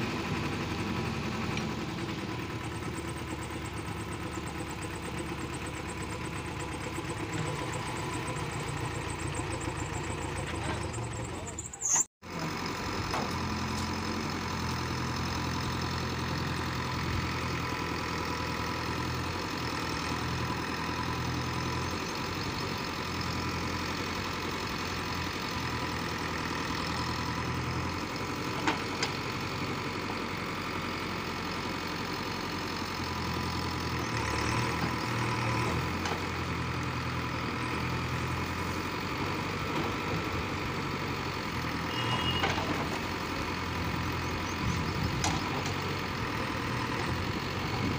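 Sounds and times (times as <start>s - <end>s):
diesel engine under load: 0.0s - 47.9s.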